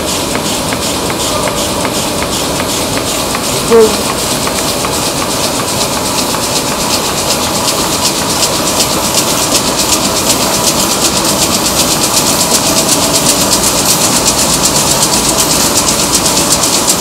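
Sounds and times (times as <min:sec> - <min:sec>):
fast even mechanical clatter: 0:00.0 - 0:17.0
printing press running: 0:00.0 - 0:17.0.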